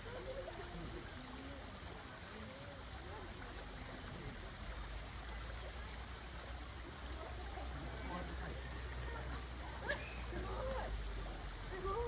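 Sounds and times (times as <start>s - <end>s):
faint distant voices: 0.0s - 12.0s
running water rushing: 0.0s - 12.0s.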